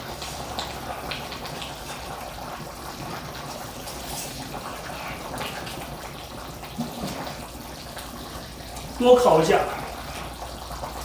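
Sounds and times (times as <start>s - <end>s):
stew bubbling: 0.0s - 11.0s
wood fire crackles: 0.0s - 11.0s.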